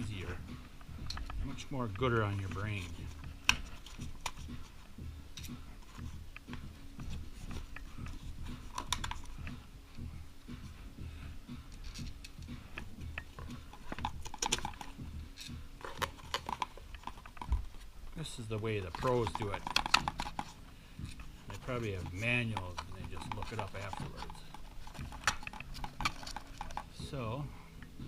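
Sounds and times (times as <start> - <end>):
hand tools clicking and tapping: 0.0 - 28.0
low steady hum: 0.0 - 28.0.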